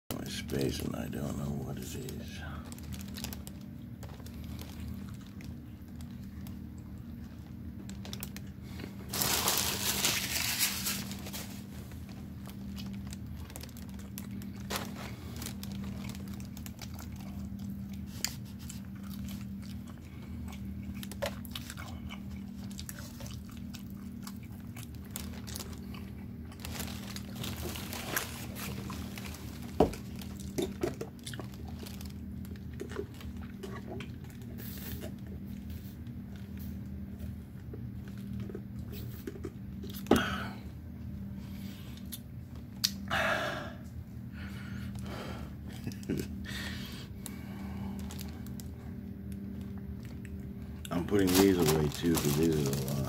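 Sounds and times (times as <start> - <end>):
low hum: 0.1 - 53.0
person chewing and crunching food: 0.4 - 40.6, 41.2 - 43.1, 43.8 - 53.0.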